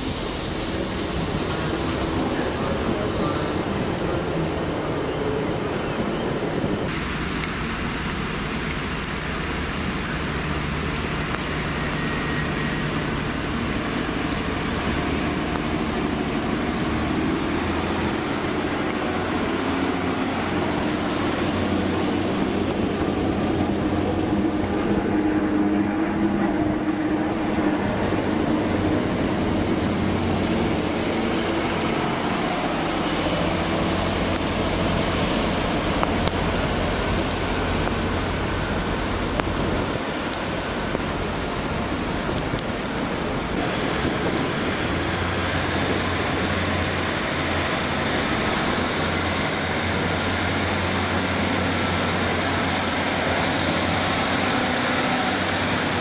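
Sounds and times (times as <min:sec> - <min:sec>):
diesel train engine running: 0:00.0 - 0:56.0.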